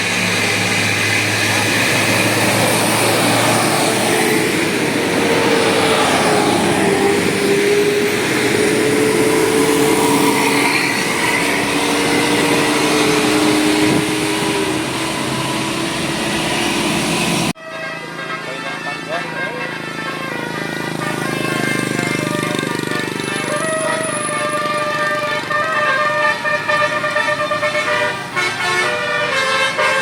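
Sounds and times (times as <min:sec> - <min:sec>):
bus engine running: 0:00.0 - 0:30.0.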